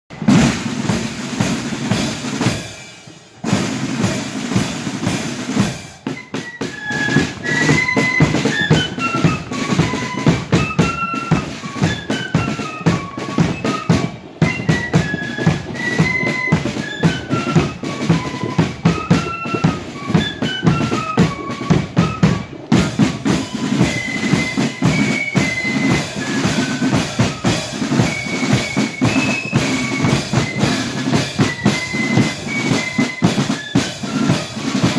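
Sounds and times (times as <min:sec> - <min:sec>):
bass and snare drums: 0:00.1 - 0:34.9
flutes playing high melody: 0:00.1 - 0:34.9.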